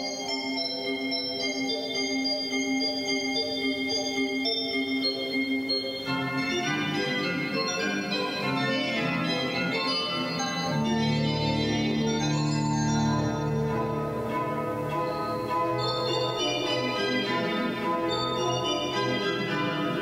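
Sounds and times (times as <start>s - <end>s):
pipe organ chords: 0.1s - 20.0s.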